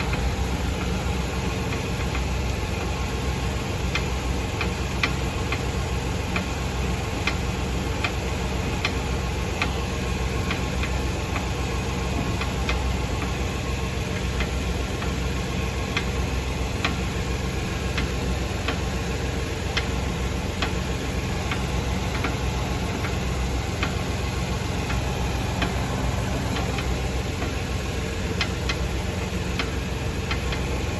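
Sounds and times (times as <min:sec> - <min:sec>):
low car rumble: 0:00.0 - 0:30.9
suspension clicking and knocking: 0:00.0 - 0:30.9.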